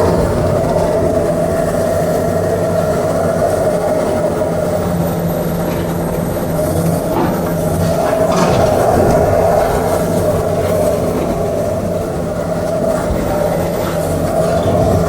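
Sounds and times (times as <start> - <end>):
diesel engine drone: 0.0 - 15.0
hydraulic whine: 0.0 - 15.0.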